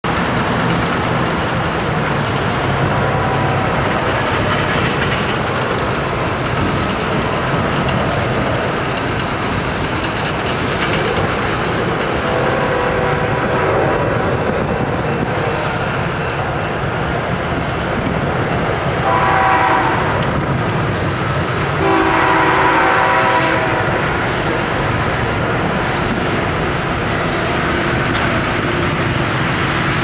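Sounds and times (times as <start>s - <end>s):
diesel locomotives rumbling: 0.0s - 30.0s.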